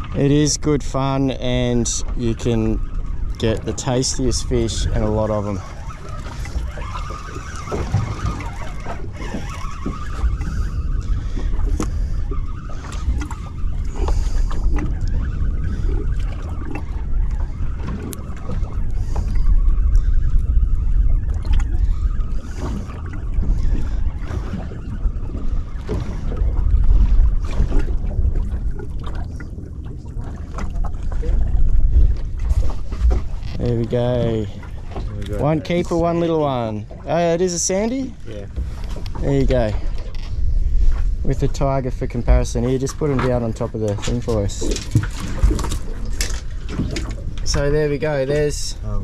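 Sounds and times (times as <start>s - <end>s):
water lapping at boat hull: 0.0s - 49.0s
wind buffeting microphone: 0.0s - 49.0s.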